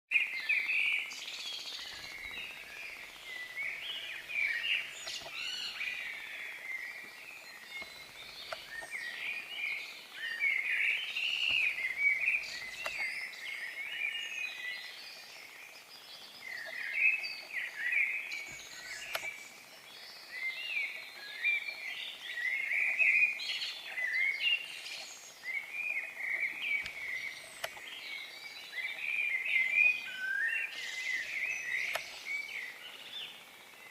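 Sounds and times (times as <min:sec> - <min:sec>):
birds chirping and trilling: 0:00.1 - 0:33.9.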